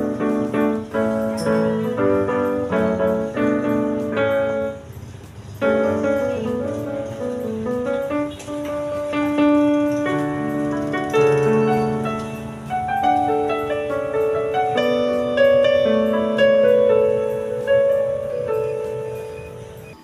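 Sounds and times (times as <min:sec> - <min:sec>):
slow keyboard piece: 0:00.0 - 0:20.0.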